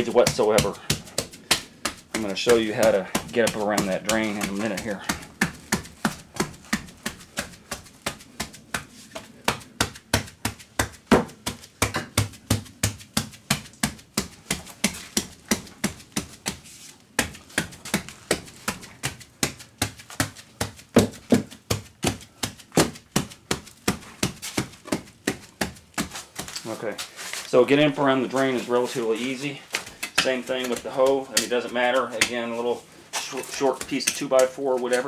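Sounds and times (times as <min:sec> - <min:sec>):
hoe tapping wet mortar: 0:00.0 - 0:35.0.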